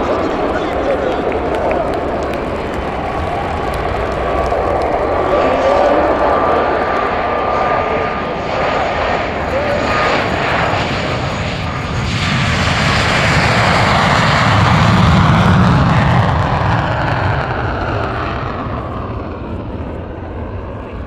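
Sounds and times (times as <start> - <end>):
jet engine roaring on takeoff: 0.0 - 21.0.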